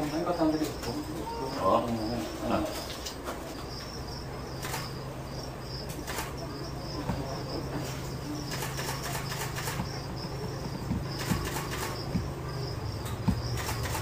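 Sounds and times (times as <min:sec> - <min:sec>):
insects chirping: 0:00.0 - 0:14.0
steady low hum: 0:00.0 - 0:14.0.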